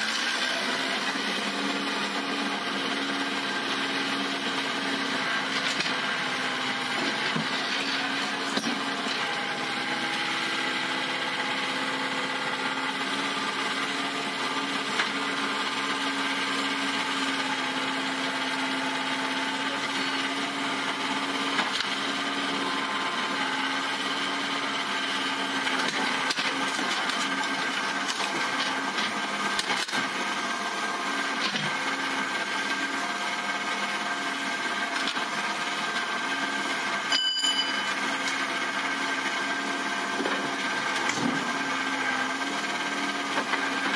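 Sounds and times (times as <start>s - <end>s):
diesel engine running under load: 0.0s - 43.9s
hydraulic whine: 0.0s - 43.9s.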